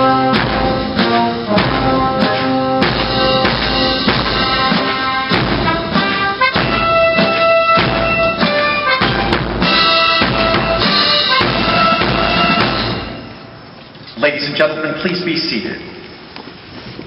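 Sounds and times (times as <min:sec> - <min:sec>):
military band music: 0:00.0 - 0:14.8.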